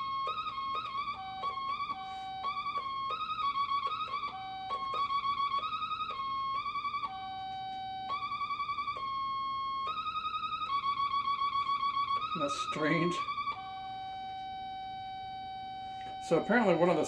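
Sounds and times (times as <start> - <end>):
guitar feedback warbling squeal: 0.0 - 17.0.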